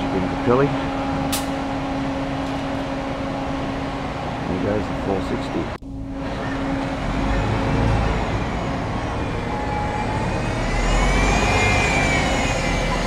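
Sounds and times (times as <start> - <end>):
bus engine rumbling with whine: 0.0 - 13.0.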